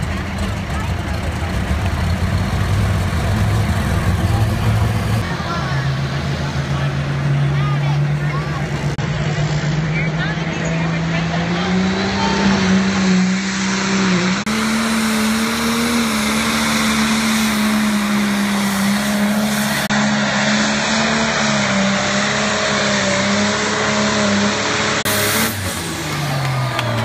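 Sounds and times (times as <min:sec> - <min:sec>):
tractor engine at high revs: 0:00.0 - 0:27.0.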